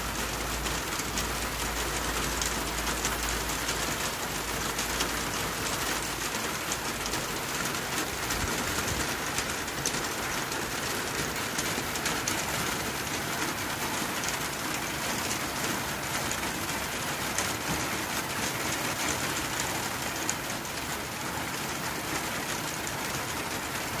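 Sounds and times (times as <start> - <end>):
rain on a tin roof: 0.0 - 24.0.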